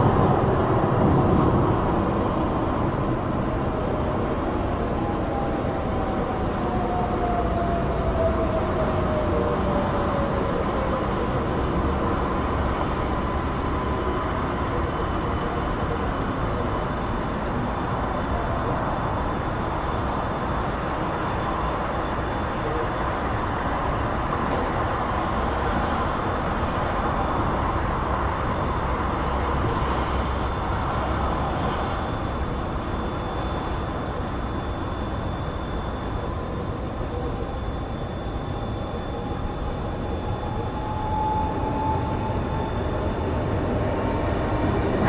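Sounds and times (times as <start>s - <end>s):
distant motorway traffic: 0.0s - 45.0s.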